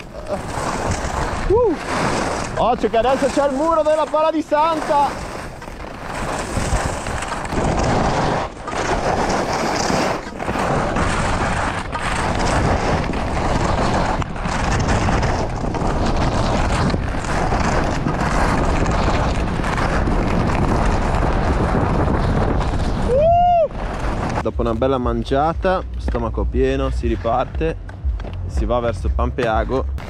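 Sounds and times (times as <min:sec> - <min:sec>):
skis scraping over packed snow: 0:00.0 - 0:30.0
wind rushing over microphone: 0:00.0 - 0:30.0.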